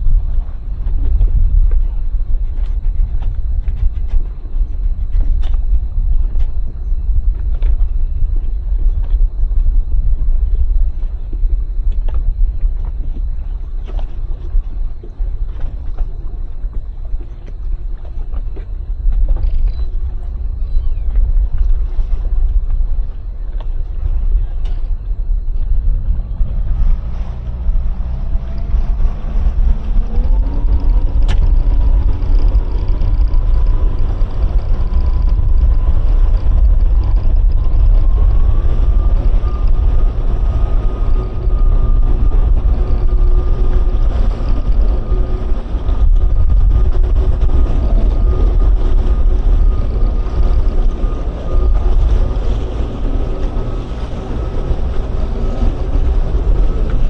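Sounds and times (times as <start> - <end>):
outboard motors running hard: 0.0 - 57.0
wind rumble on microphone: 0.0 - 57.0.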